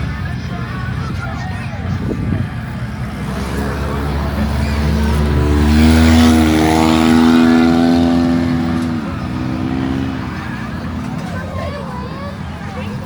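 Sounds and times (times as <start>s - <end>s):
car engine revving: 2.0s - 13.0s.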